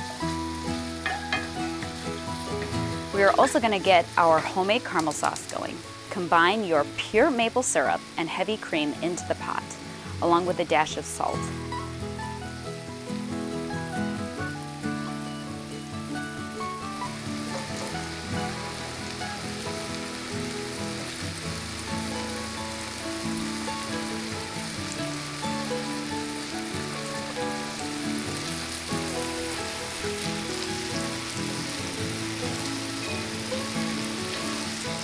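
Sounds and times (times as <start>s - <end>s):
apples sizzling in a pan: 0.0s - 35.0s
background music: 0.0s - 35.0s.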